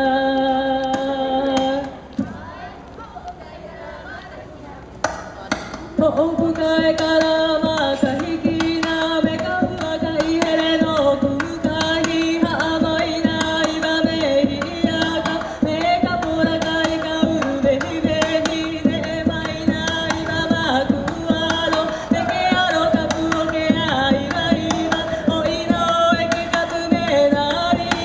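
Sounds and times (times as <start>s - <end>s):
person singing long notes: 0.0s - 3.4s, 5.4s - 28.0s.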